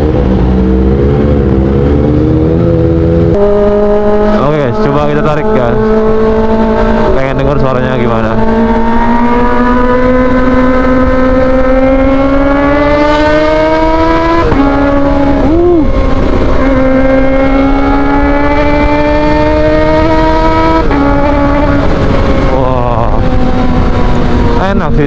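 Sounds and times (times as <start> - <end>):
motorcycle engine accelerating hard: 0.0 - 25.0.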